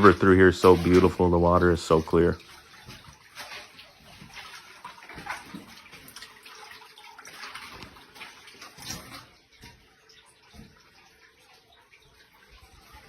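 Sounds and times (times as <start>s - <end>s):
water sloshing: 0.0s - 13.0s.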